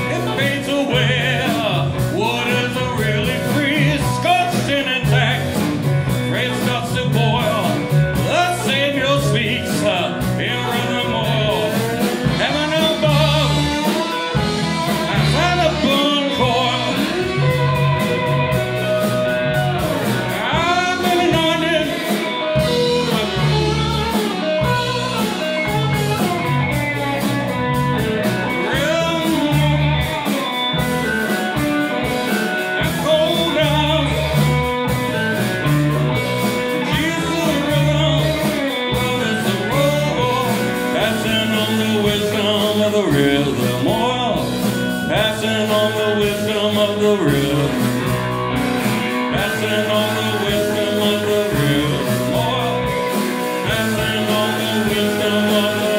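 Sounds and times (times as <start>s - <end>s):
bass guitar: 0.0s - 55.9s
drums: 0.0s - 55.9s
electric keyboards: 0.0s - 55.9s
electric slide guitar: 0.0s - 55.9s.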